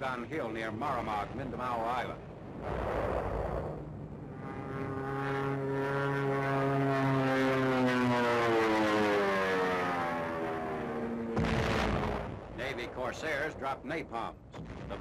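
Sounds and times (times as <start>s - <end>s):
propeller plane engine overhead: 0.0s - 14.4s.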